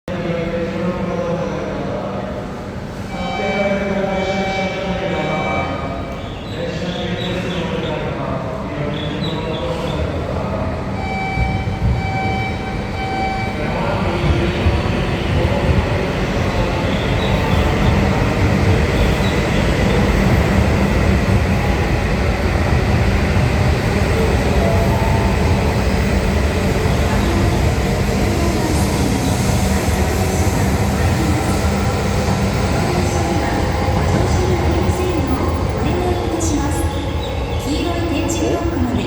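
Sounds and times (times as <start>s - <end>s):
train rumbling past: 0.1s - 39.0s.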